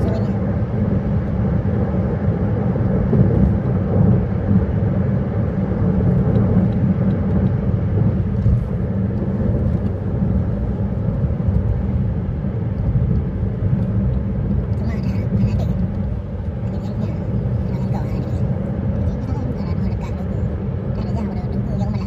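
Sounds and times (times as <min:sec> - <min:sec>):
vehicle driving on highway: 0:00.0 - 0:22.0.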